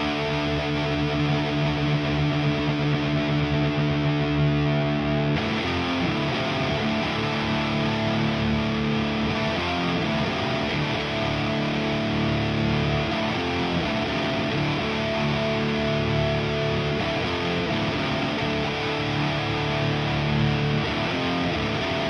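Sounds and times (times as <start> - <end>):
distorted electric guitar chords: 0.0 - 22.0.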